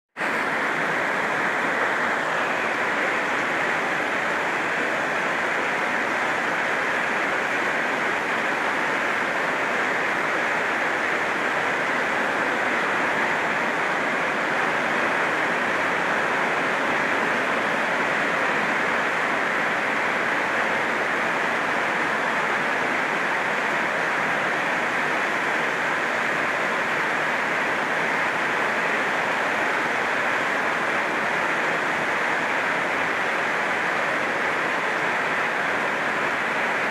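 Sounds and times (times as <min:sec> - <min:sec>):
heavy rain on a tin roof: 0:00.2 - 0:36.9.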